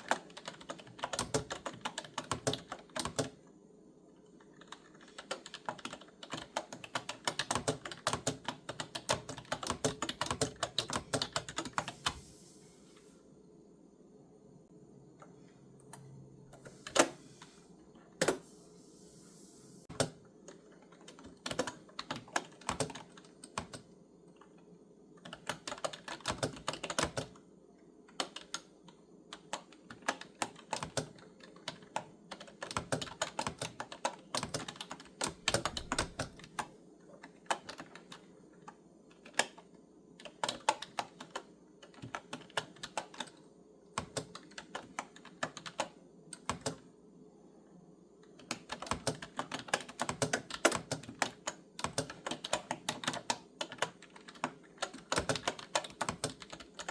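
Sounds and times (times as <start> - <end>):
clicky keyboard typing: 0.0 - 3.4, 4.3 - 12.2, 19.9 - 24.6, 25.2 - 27.4, 28.1 - 46.9, 48.2 - 56.9.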